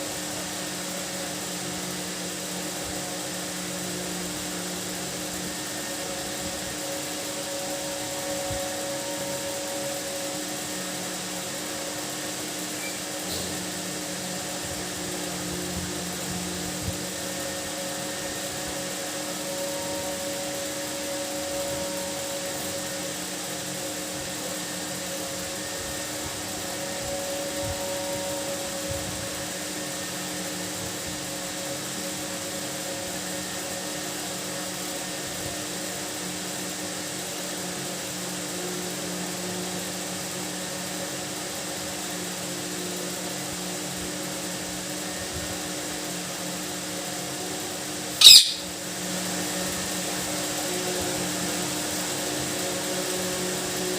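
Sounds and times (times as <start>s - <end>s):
mechanical hum with hiss: 0.0s - 53.9s.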